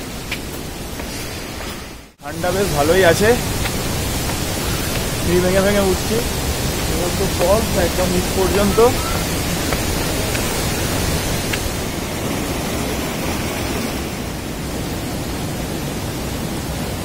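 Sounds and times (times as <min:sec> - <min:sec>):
waterfall rushing over rocks: 0:00.0 - 0:17.0.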